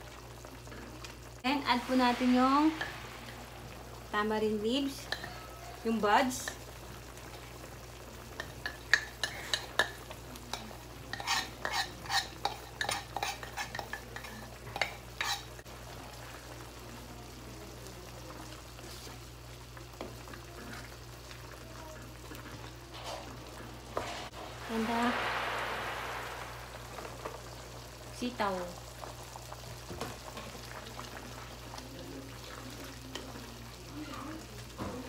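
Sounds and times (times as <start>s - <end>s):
soup simmering sizzle: 0.0s - 35.0s.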